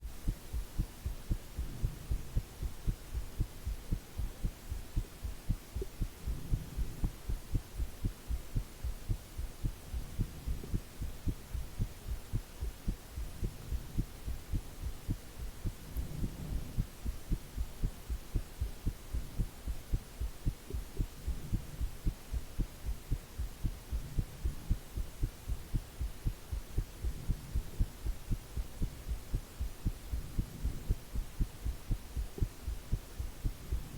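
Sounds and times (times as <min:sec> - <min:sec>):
heartbeat: 0:00.0 - 0:33.9
white noise hiss: 0:00.0 - 0:33.9.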